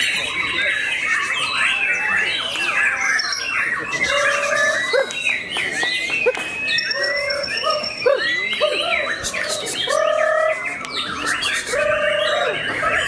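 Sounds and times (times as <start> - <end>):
birds singing whistled phrases: 0.0 - 13.0.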